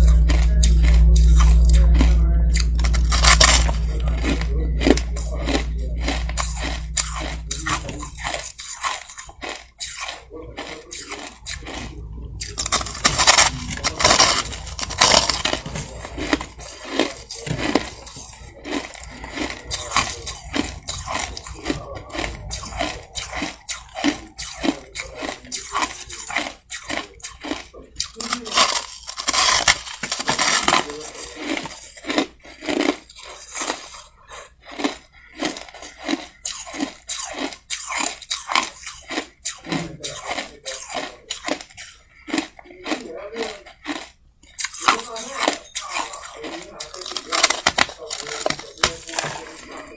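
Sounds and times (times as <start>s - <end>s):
chewing crushed ice: 0.0s - 49.9s.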